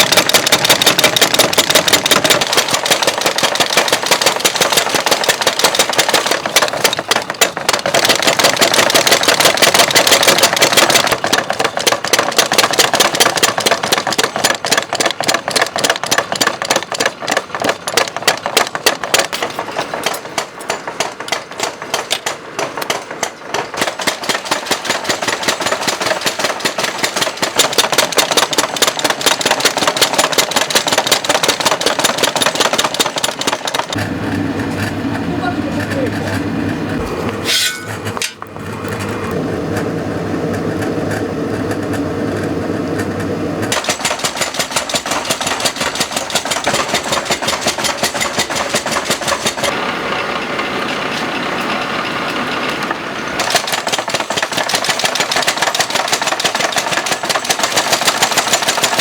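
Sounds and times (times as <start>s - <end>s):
power hammer pounding steel: 0.0s - 38.5s, 43.7s - 49.8s, 53.2s - 59.0s.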